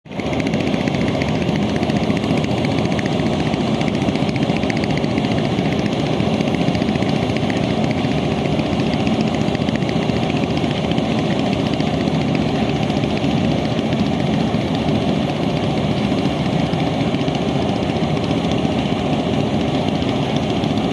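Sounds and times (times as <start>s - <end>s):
boat engine running: 0.1s - 20.9s.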